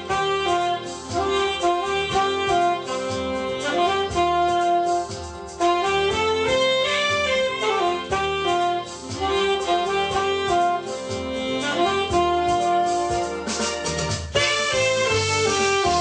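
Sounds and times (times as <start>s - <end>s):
alto saxophone melody: 0.0s - 16.0s.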